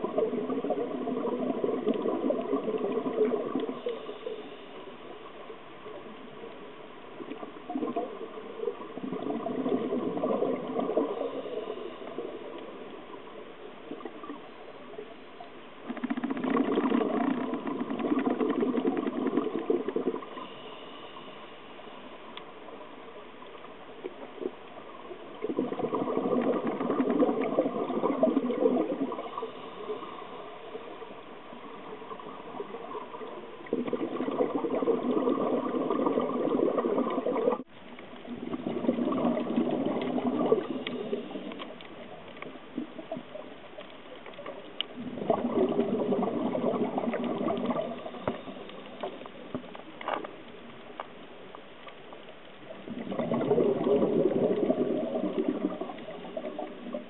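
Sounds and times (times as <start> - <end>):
underwater exhaled bubbles rushing: 0.0 - 4.5, 7.2 - 14.5, 15.8 - 20.8, 24.0 - 49.8, 52.6 - 57.0.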